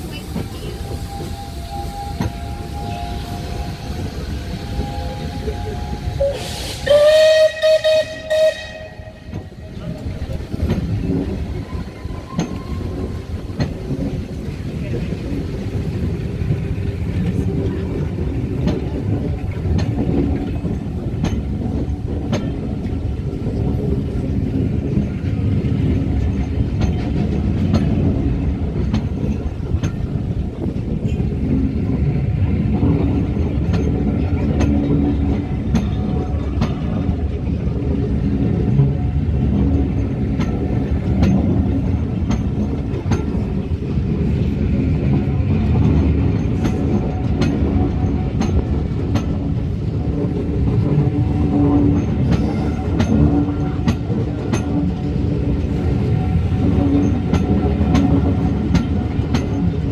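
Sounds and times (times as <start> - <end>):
wheels rumbling on rail: 0.0 - 59.9
wheels clicking over rail joints: 7.4 - 59.9.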